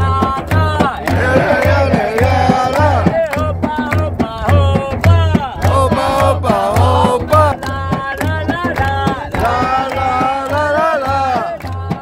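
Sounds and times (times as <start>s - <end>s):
hand clapping: 0.0s - 12.0s
hand drum beat: 0.0s - 12.0s
man singing: 0.0s - 12.0s.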